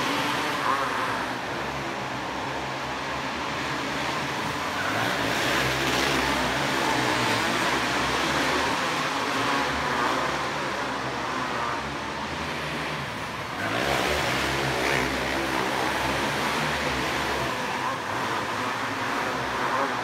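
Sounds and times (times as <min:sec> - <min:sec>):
kart engines revving: 0:00.0 - 0:20.0.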